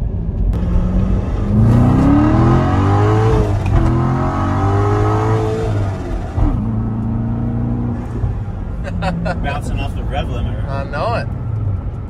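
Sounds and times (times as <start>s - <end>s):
car engine accelerating hard: 0.5s - 12.0s.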